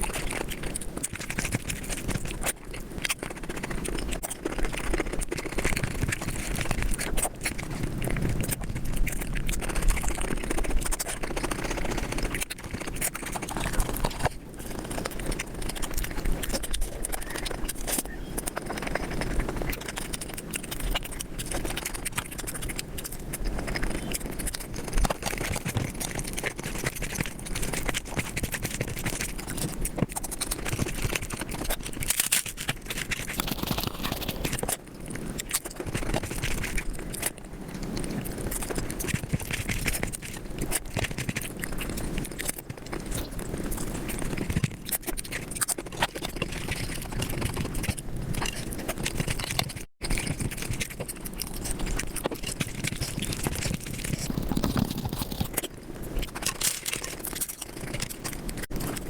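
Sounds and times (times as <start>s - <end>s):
crunching clicks: 0.0s - 59.0s
wet chewing and smacking: 0.0s - 59.0s.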